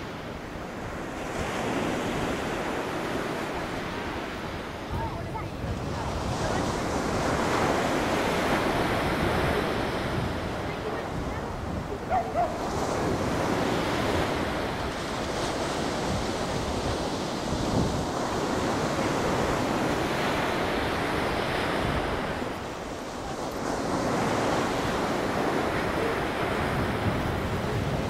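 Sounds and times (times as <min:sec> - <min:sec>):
sea surf: 0:00.0 - 0:28.0
wind buffeting microphone: 0:00.0 - 0:28.0.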